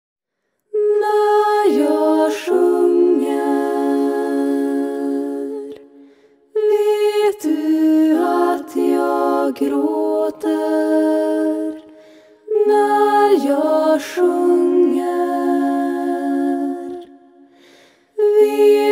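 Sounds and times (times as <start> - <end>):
women singing in harmony: 0.7 - 18.9.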